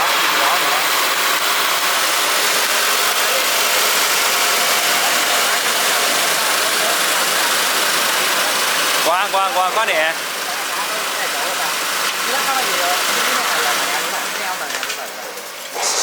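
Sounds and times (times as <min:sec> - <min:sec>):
rice mill whirring: 0:00.0 - 0:16.0.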